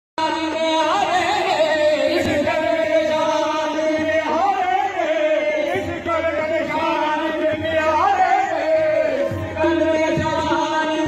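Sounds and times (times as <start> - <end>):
men chanting a devotional song: 0.2 - 11.0.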